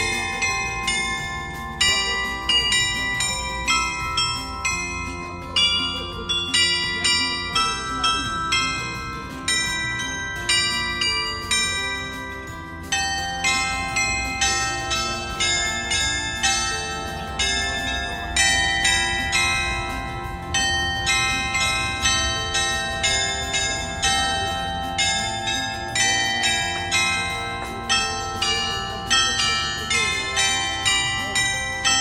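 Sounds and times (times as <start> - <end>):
tuned bells playing slow melody: 0.0 - 32.0.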